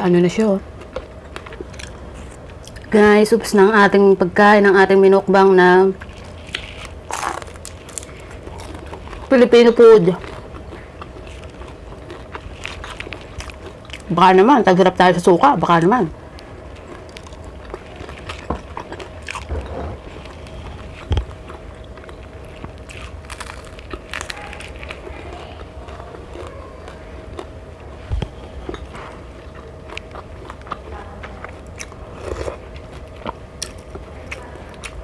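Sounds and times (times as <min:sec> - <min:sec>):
faint steady hum: 0:00.0 - 0:35.0
crunching bites and chewing: 0:00.8 - 0:02.9, 0:06.0 - 0:09.4, 0:10.0 - 0:14.1, 0:16.3 - 0:35.0.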